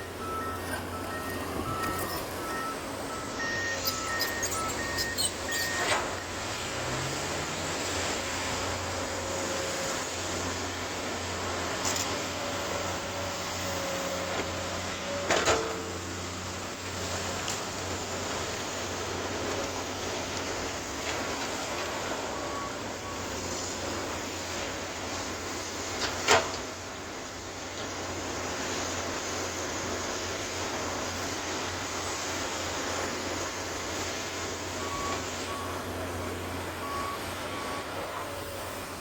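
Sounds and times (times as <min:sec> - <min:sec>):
excavator engine running: 0:00.0 - 0:39.0.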